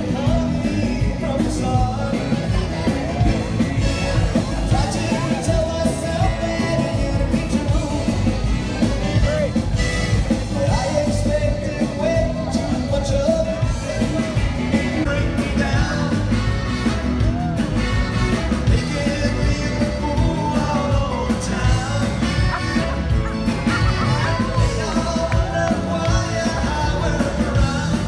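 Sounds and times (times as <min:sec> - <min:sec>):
man singing: 0:00.0 - 0:28.0
mariachi band playing: 0:00.0 - 0:28.0.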